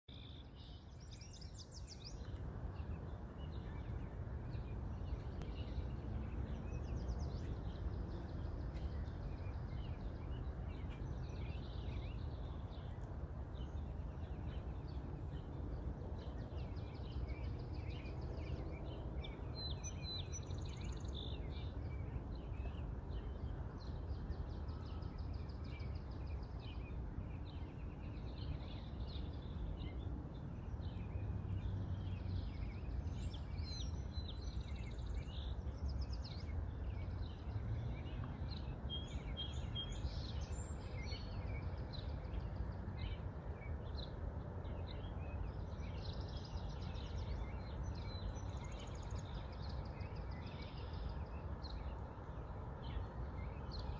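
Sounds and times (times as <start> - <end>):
birds chirping and trilling: 0.1 - 53.9
low background rumble: 0.1 - 53.9.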